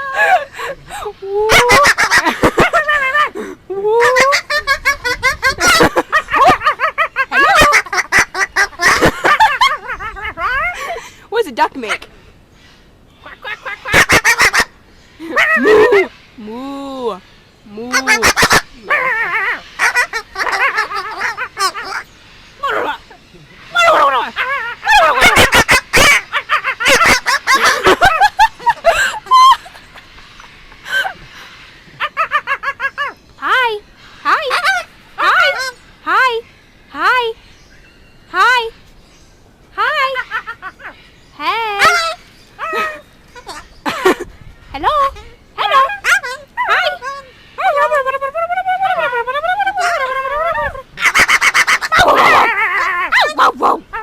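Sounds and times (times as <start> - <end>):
talking bird chattering: 1.4 - 3.4, 4.0 - 39.0, 39.7 - 54.0.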